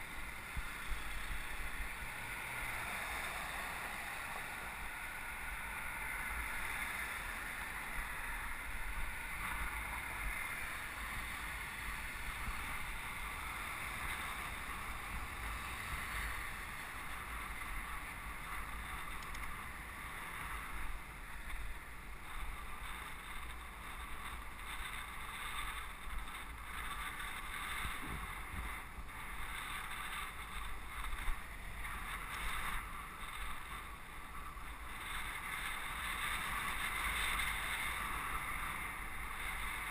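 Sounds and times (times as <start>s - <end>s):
passing street traffic: 0.0s - 39.9s
tyres hissing on road: 0.0s - 39.9s.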